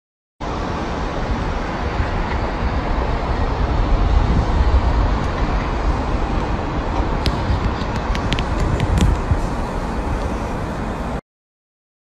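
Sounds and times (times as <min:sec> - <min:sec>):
low rumble: 0:00.4 - 0:11.2
rushing outdoor noise: 0:00.4 - 0:11.2.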